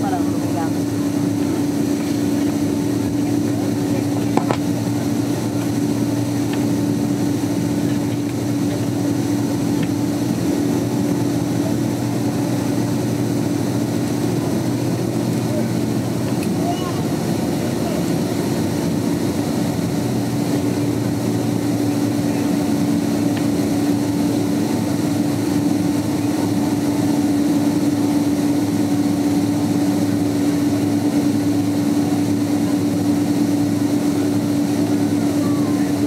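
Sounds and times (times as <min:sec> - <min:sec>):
jet engines humming in cabin: 0:00.0 - 0:36.0.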